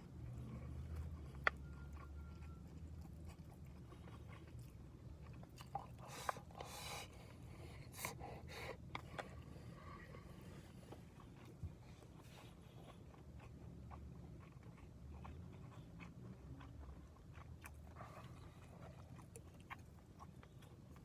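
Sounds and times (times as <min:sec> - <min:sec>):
chewing and mouth sounds: 0:00.0 - 0:21.0.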